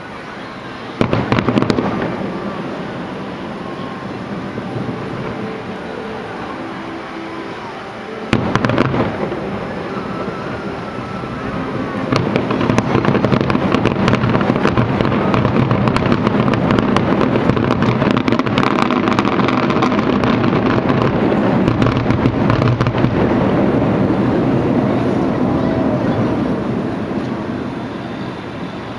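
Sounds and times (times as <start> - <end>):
fireworks crackling and banging: 0.0 - 28.9.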